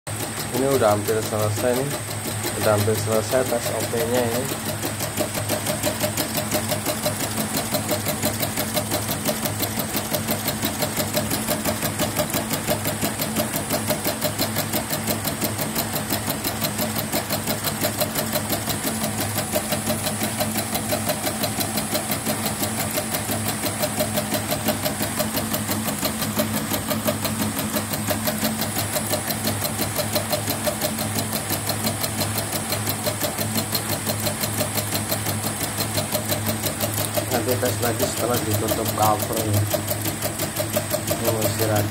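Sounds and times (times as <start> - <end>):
embroidery machine stitching: 0.1 - 41.9.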